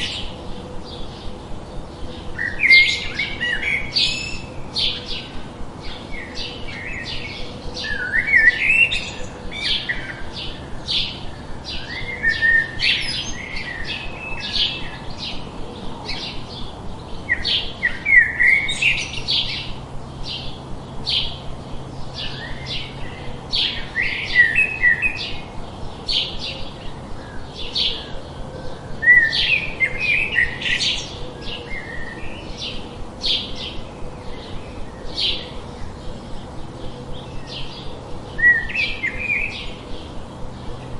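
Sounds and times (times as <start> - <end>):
birds twittering: 0.0 - 40.9
small birds chirping: 0.0 - 40.9.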